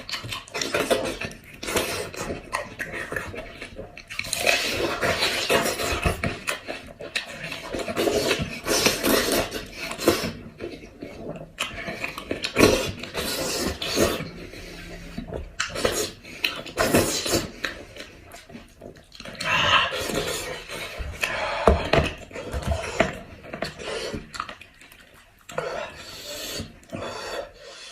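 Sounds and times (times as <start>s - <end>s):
person chewing and tearing food: 0.0s - 27.9s.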